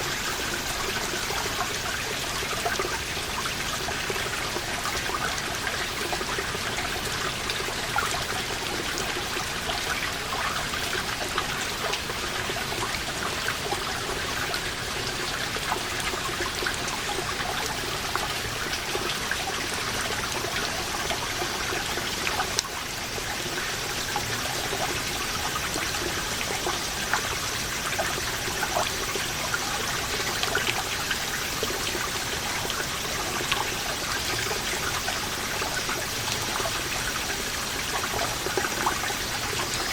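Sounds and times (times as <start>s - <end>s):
water dripping from a wall: 0.0s - 39.9s.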